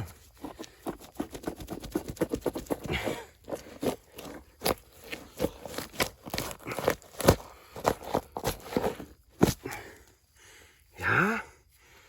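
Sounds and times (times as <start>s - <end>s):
hand shovel digging in soil: 0.0s - 9.8s.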